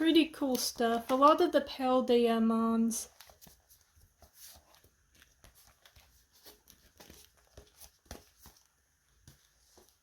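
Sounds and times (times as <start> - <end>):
trading cards rustling: 0.0 - 1.6, 3.0 - 10.0
plastic album sleeves tapping: 0.0 - 1.7, 3.0 - 10.0.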